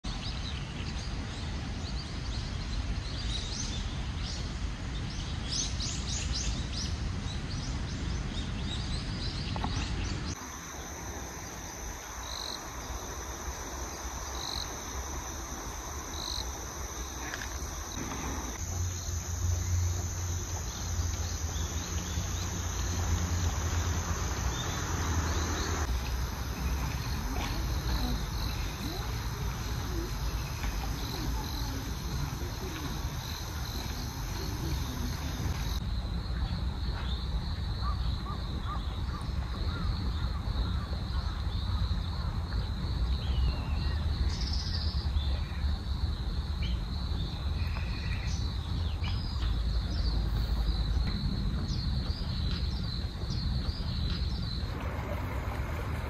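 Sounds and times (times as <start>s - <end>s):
insects trilling: 10.3s - 56.0s.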